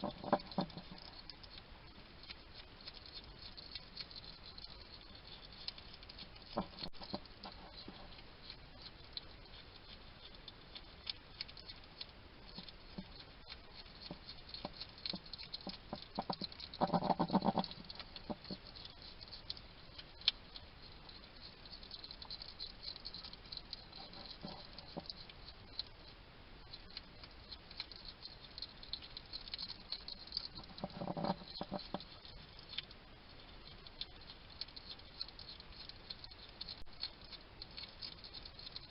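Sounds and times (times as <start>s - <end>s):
hedgehog chewing and crunching: 0.0s - 38.9s.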